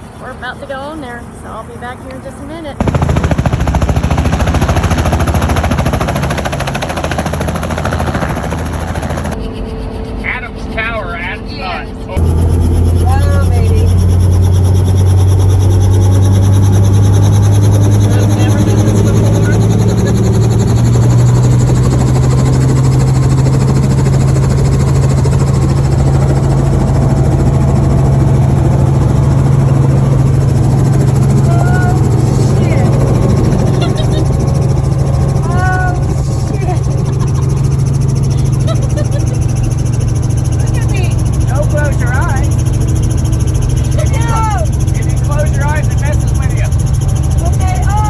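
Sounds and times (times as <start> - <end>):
helicopter engine drone: 0.0 - 48.0
helicopter rotor blades chopping: 0.0 - 48.0.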